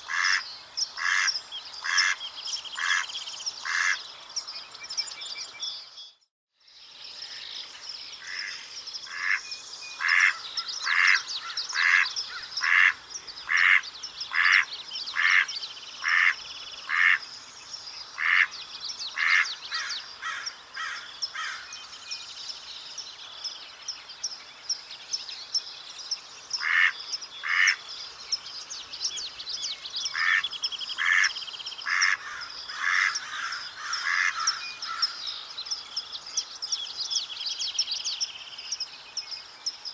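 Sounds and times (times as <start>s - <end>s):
birds chirping faintly: 0.0s - 39.9s.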